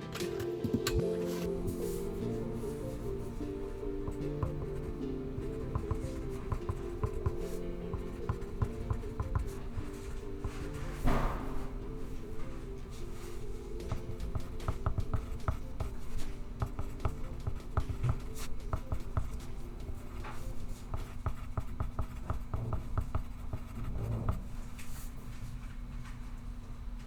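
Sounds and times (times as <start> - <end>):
pencil scratching on paper: 1.2 - 25.1.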